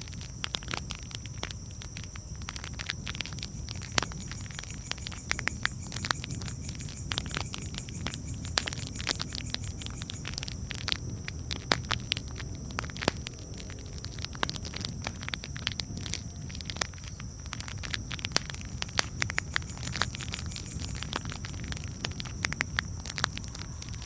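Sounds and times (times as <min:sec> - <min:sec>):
low rumble of flames: 0:00.0 - 0:19.7
campfire crackling and popping: 0:00.1 - 0:23.8.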